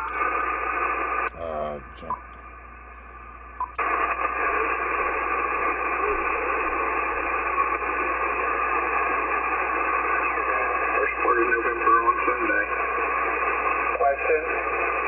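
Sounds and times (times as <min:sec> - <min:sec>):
radio static and hiss: 0:00.0 - 0:02.6, 0:03.6 - 0:15.0.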